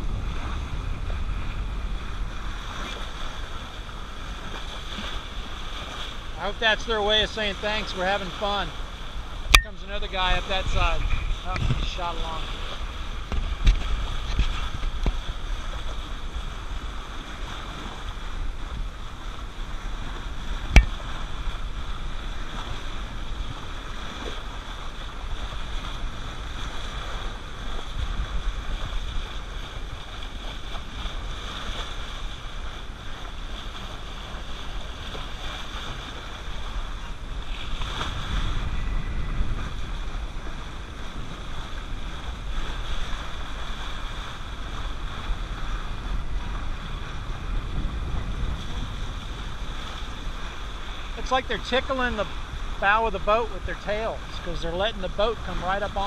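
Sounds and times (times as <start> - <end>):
water rushing along a hull: 0.0 - 56.0
wind buffeting microphone: 0.0 - 56.0.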